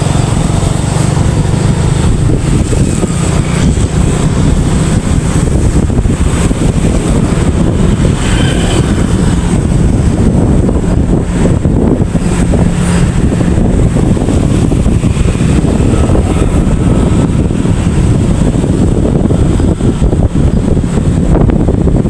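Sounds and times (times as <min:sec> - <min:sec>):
vehicle low rumble: 0:00.0 - 0:22.0
wind buffeting on microphone: 0:00.0 - 0:22.0.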